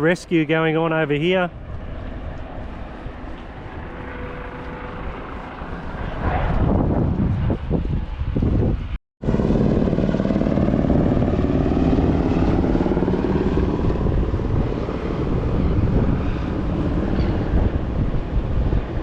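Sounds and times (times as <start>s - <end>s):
engine droning: 0.0s - 8.3s, 9.2s - 19.0s.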